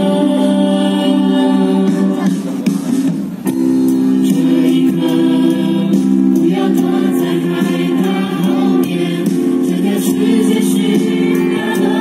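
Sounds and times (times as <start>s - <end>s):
choir singing held chords: 0.0s - 2.8s, 3.5s - 12.0s.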